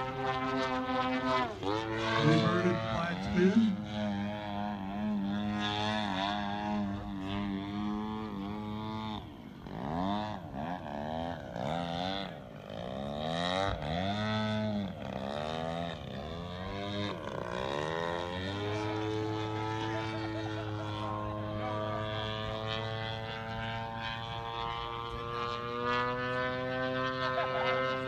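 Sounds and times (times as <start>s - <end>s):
model airplane engine: 0.0s - 28.0s.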